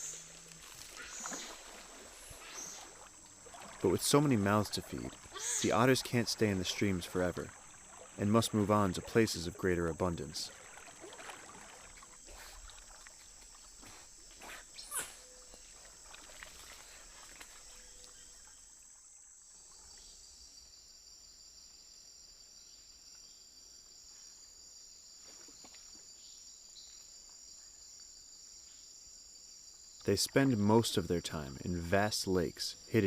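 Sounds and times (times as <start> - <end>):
insect trills: 0.0 - 33.0.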